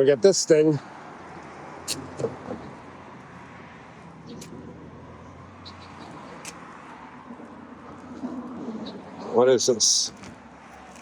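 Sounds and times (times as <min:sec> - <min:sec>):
traffic or vehicle engine hum: 0:00.0 - 0:11.0.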